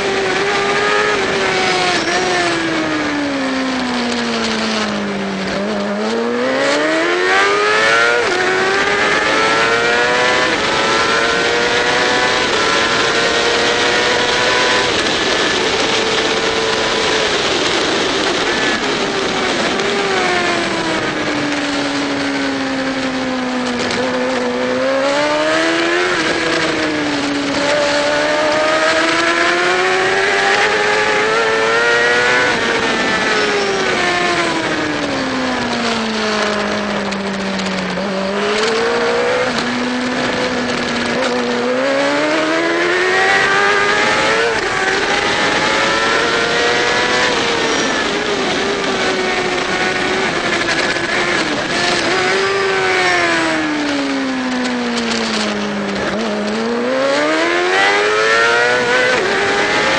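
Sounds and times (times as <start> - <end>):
racing motorcycle engine revving: 0.0 - 59.9
wind on microphone: 0.0 - 59.9.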